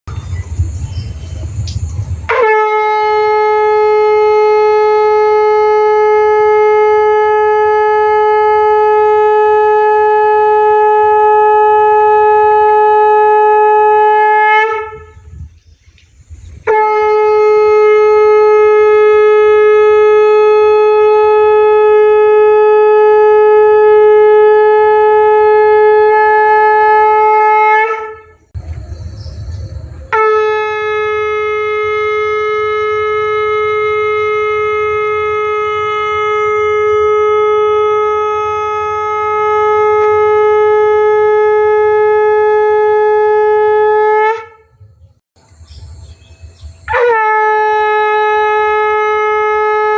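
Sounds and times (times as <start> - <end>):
conch shell blasts: 2.2 - 15.3, 16.6 - 28.5, 30.1 - 44.8, 46.8 - 49.9.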